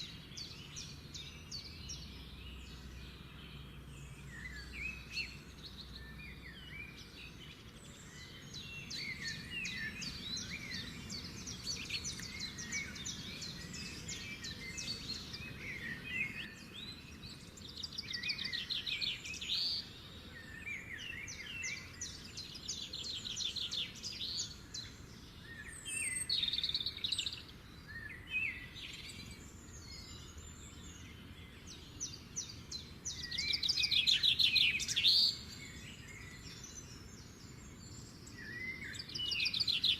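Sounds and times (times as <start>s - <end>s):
birds chirping and trilling: 0.0s - 39.9s
faint low background noise: 0.0s - 39.9s.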